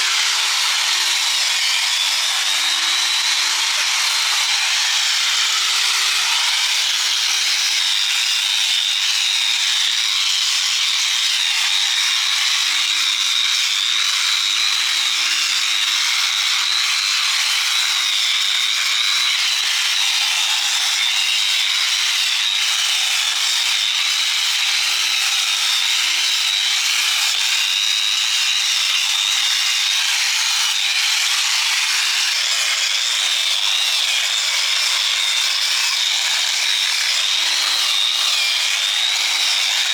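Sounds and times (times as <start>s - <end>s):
power tool grinding metal: 0.0s - 39.9s.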